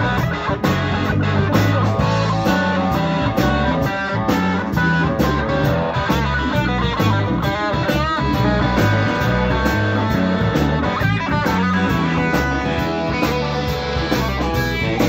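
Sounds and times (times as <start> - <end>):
electric blues band playing: 0.0 - 15.0
electric guitar bent notes: 0.0 - 15.0.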